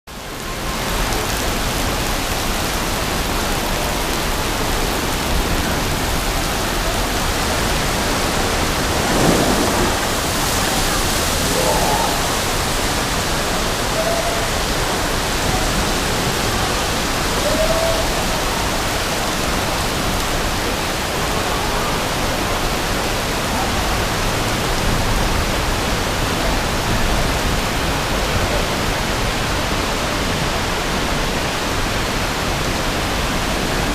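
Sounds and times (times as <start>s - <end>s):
rainwater splashing onto street: 0.1s - 33.9s.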